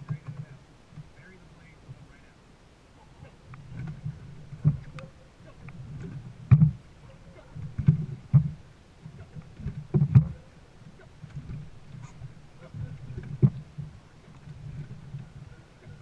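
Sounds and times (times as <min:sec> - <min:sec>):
paddles knocking against hull: 0:00.0 - 0:02.2, 0:03.2 - 0:16.0
low rumble of water: 0:00.0 - 0:16.0
paddles digging into water: 0:03.0 - 0:16.0.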